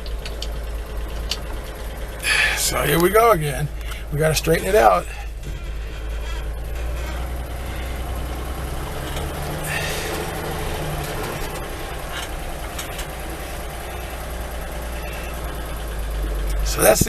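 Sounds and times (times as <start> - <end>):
truck engine running at low speed: 0.0 - 17.0.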